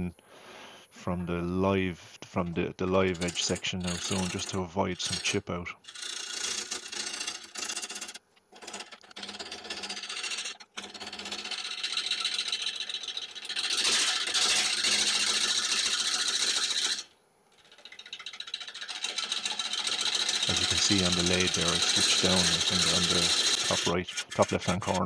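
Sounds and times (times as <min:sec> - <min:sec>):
gouge cutting wood on a lathe: 0:03.0 - 0:25.0.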